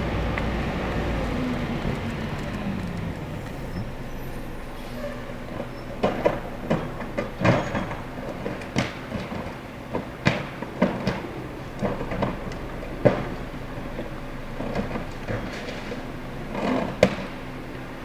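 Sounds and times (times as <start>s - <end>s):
diesel engine running: 0.0s - 18.0s
metallic clanks and knocks: 1.2s - 17.6s.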